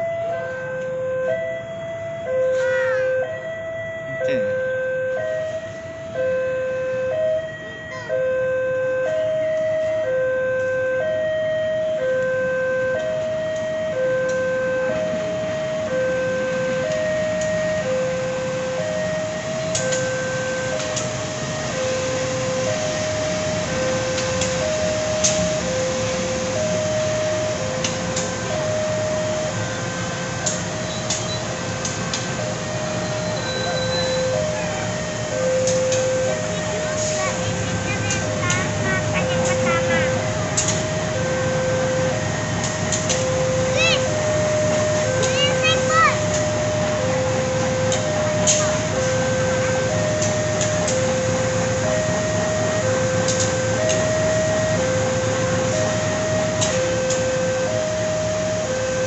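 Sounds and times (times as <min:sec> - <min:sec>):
diesel locomotive running: 0:00.0 - 0:59.0
two-tone crossing alarm: 0:00.0 - 0:59.0.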